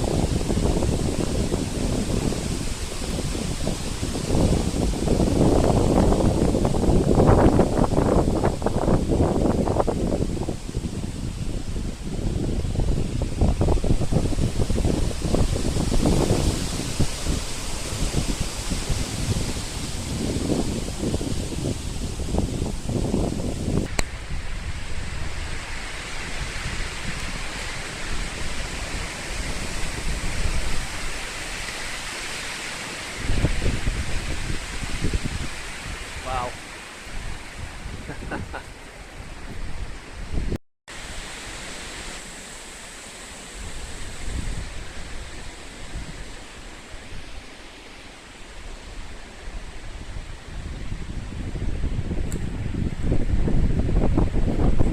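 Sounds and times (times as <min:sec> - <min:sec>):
wind buffeting microphone: 0:00.0 - 0:40.6, 0:43.5 - 0:47.4, 0:48.5 - 0:54.9
storm wind through treetops: 0:00.0 - 0:54.9.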